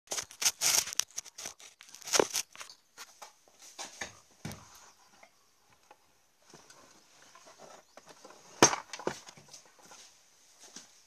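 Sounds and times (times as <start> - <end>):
handling rustling and scraping: 0.1 - 11.0.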